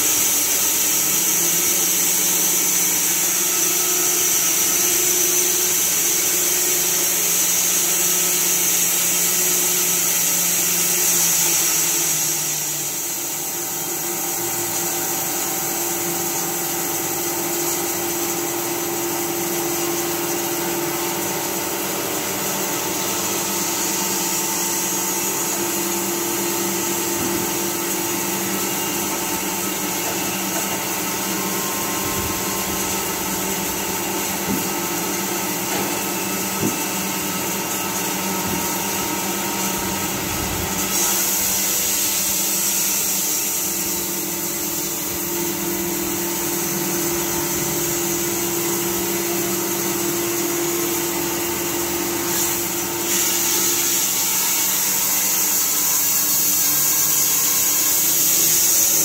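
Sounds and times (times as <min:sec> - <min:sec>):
sawmill running: 0:00.0 - 0:59.0.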